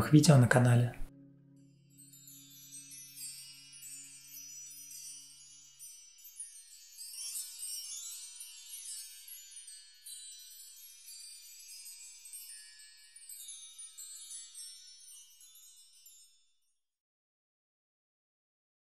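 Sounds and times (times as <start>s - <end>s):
bell-like chime tones: 0.0s - 16.6s.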